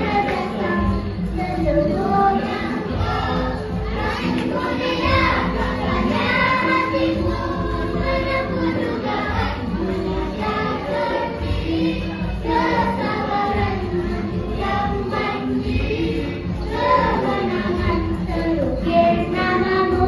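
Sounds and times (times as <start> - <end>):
girls singing in unison: 0.0 - 20.0.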